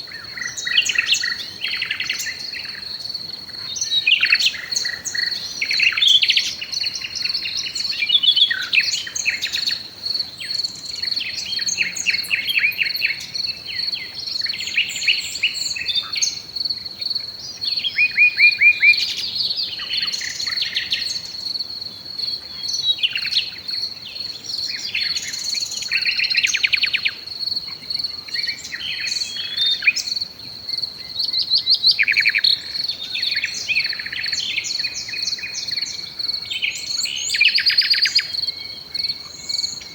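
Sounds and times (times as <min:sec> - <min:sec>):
songbirds singing and calling: 0:00.0 - 0:39.9
high-pitched insect trill: 0:00.1 - 0:39.9.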